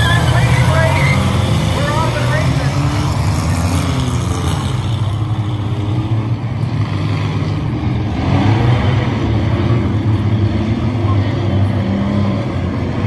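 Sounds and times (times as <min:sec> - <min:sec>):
race car engines rumbling: 0:00.0 - 0:13.0.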